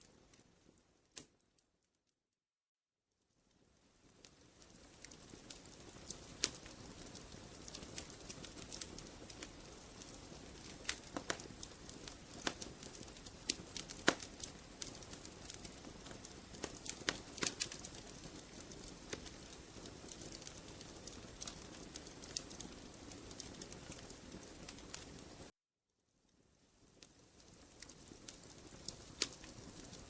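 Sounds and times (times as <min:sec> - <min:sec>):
wood fire crackling: 0:00.0 - 0:01.6, 0:03.5 - 0:25.5, 0:26.3 - 0:30.0.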